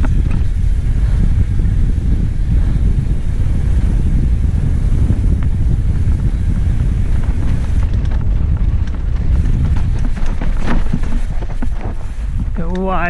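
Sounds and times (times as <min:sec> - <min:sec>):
bike frame rattling and knocking: 0:00.0 - 0:02.3, 0:02.9 - 0:13.0
wind buffeting microphone: 0:00.0 - 0:13.0.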